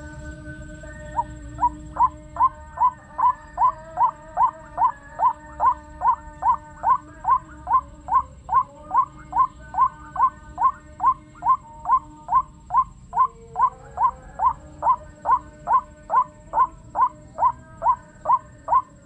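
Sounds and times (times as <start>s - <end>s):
low steady hum: 0.0s - 19.0s
waterhen call through loudspeaker: 1.0s - 19.0s.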